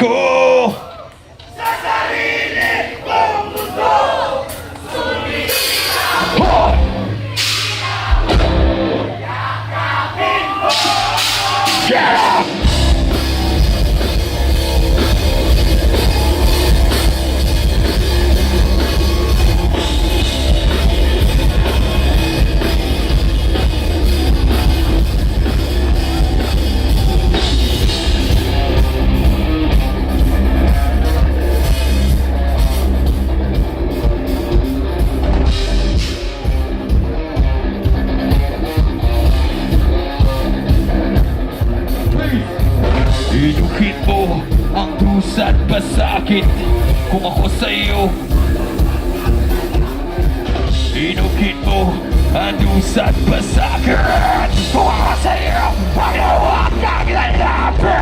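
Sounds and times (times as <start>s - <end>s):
heavy rock band playing: 1.6s - 58.0s
pounding drum kit: 3.4s - 58.0s.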